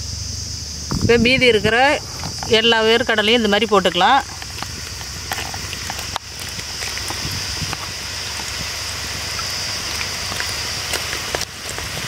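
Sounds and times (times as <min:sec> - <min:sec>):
batter deep-frying in oil: 0:00.0 - 0:12.0.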